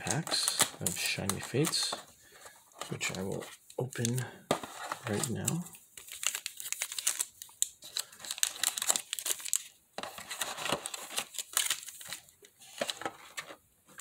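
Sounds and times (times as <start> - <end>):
foil wrappers crinkling: 0.0 - 13.4.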